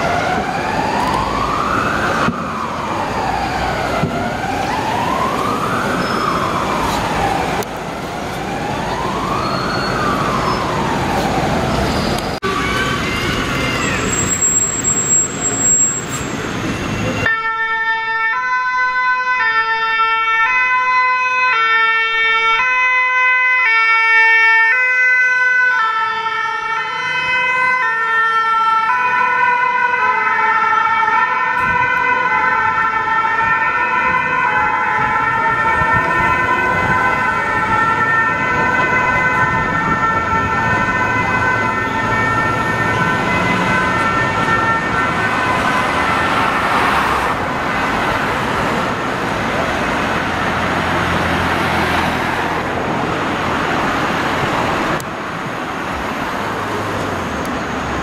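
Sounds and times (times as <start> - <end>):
road traffic noise: 0.0 - 58.0
two-tone emergency sirens: 0.0 - 58.0.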